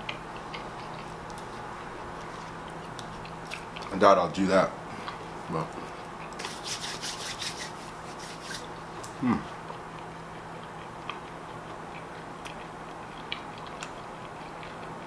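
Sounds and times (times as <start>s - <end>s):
person chewing food: 0.0s - 3.9s, 6.2s - 15.0s.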